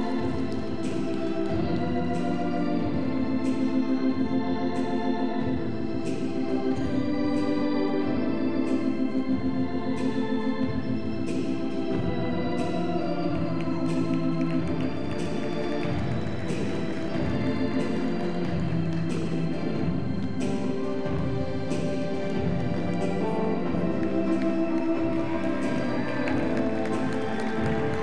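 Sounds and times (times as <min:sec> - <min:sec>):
organ playing dance music: 0:00.0 - 0:28.0.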